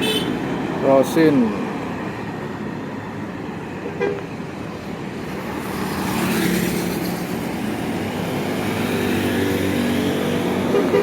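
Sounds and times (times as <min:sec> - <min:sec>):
coach engine and tyre noise: 0:00.0 - 0:11.0.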